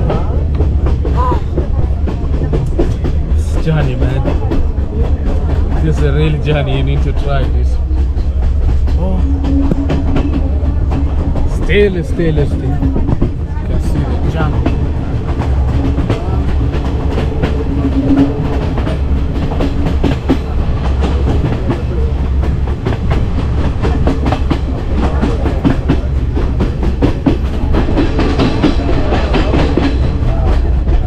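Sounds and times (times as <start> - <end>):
train rumbling: 0.0 - 31.0
wheels clicking and rattling on track: 0.0 - 31.0.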